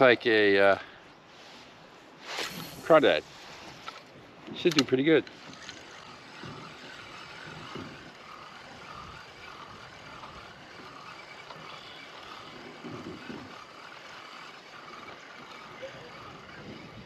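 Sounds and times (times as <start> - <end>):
fishing reel whirring: 2.3 - 17.0.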